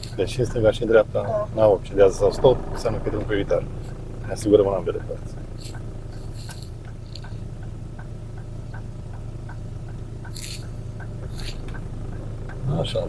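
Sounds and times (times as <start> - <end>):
car engine and road hum: 0.0 - 13.0
turn signal ticking: 0.0 - 13.0.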